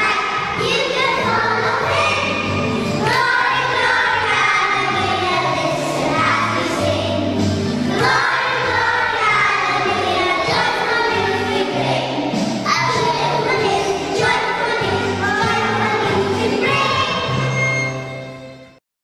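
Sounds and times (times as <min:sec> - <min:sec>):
children's choir singing: 0:00.0 - 0:18.0
musical accompaniment with bass: 0:00.0 - 0:18.8.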